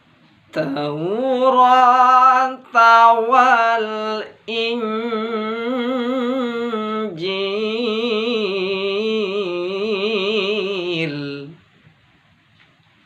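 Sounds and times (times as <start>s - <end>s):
person chanting recitation: 0.6s - 11.6s.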